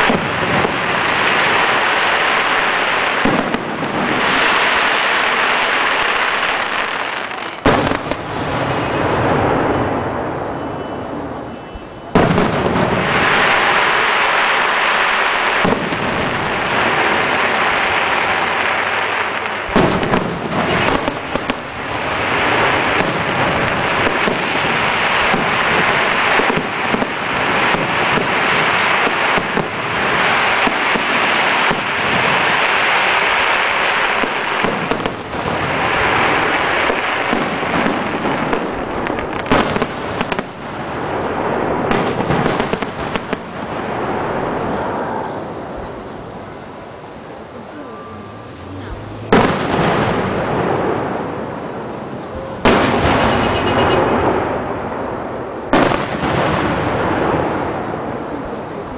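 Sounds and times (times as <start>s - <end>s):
fireworks bangs: 0.0s - 58.9s.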